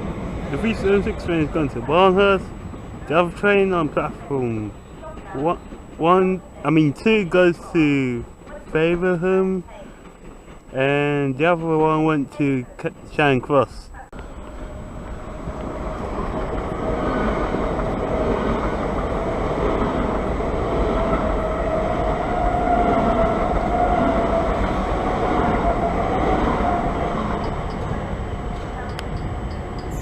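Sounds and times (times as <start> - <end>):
train rumbling past: 0.0 - 12.2, 14.2 - 30.0.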